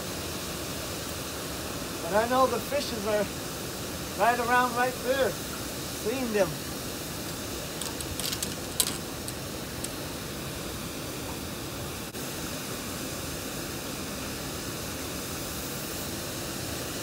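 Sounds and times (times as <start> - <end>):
water gushing into river: 0.0 - 17.0.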